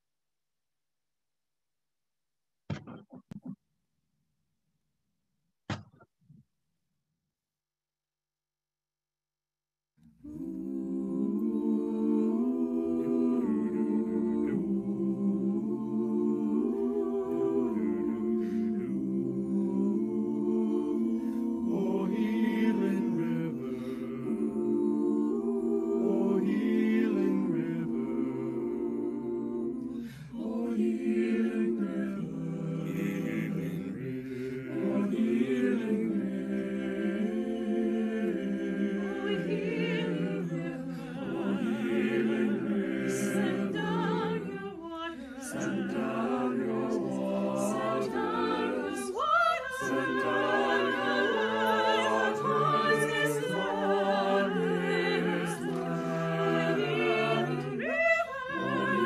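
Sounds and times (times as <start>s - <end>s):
choir singing a hymn: 10.2s - 59.0s.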